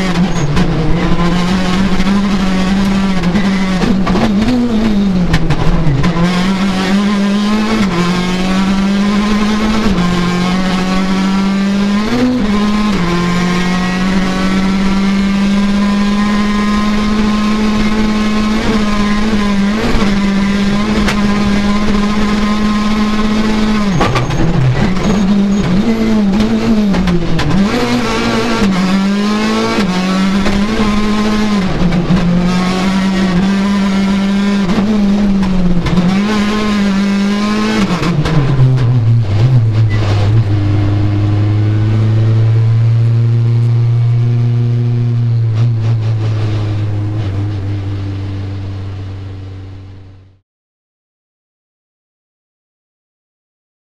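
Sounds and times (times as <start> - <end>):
rally car engine at high revs: 0.0 - 50.4.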